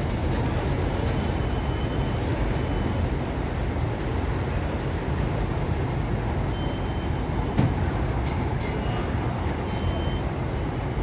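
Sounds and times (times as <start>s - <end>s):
elevated train rumbling: 0.0s - 11.0s
wheels clicking and squealing on rails: 0.0s - 11.0s.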